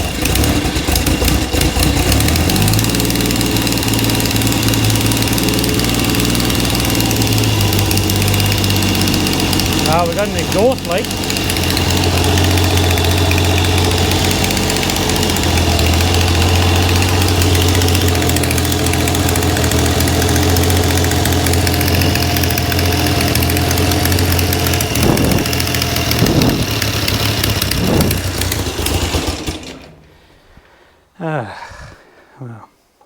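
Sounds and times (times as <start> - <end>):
engine revving: 0.0 - 30.1
motorcycle engine idling: 0.0 - 30.2.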